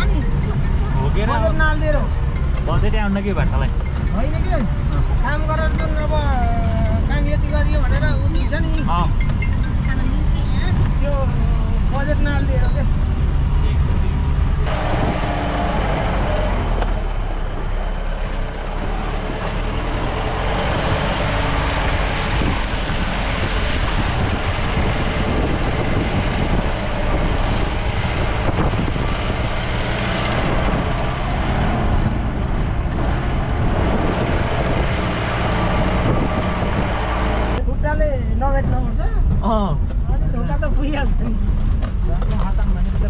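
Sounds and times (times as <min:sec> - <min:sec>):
car engine running: 0:00.0 - 0:37.6
tyre and body road noise: 0:00.0 - 0:43.0.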